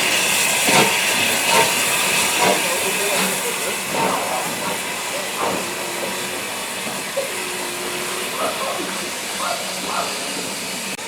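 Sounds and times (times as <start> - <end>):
steam locomotive hissing: 0.0 - 11.0.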